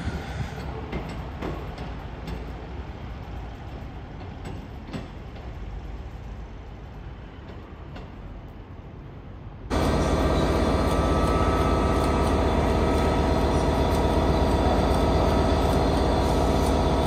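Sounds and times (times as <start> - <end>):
train clicks: 0.0 - 8.9, 9.7 - 17.0
train rumbling away: 0.0 - 17.0.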